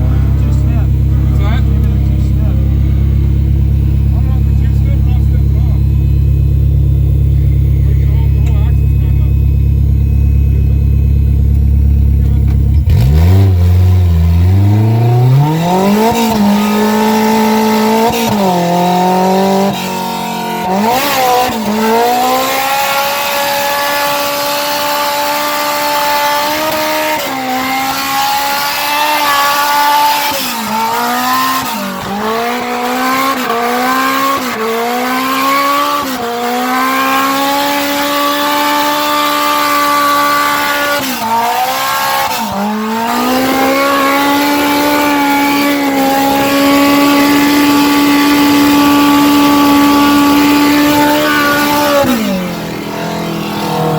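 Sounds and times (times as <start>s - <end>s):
car engine revving hard: 0.0s - 53.9s.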